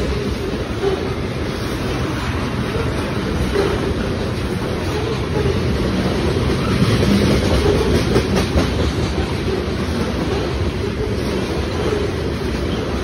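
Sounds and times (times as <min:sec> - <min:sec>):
clacks over rail joints: 0:00.0 - 0:13.0
wheel-on-rail noise: 0:00.0 - 0:13.0.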